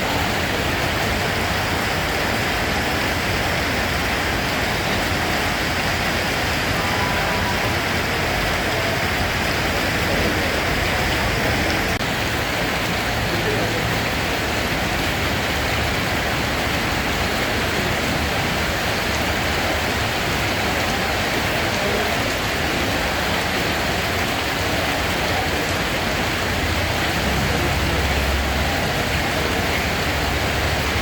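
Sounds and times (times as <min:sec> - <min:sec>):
steady rain hissing: 0:00.0 - 0:31.0.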